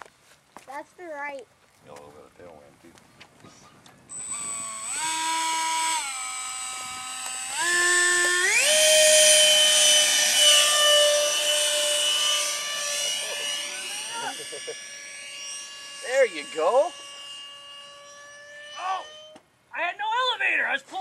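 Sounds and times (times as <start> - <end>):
electric ducted fan whining: 3.5 - 20.7.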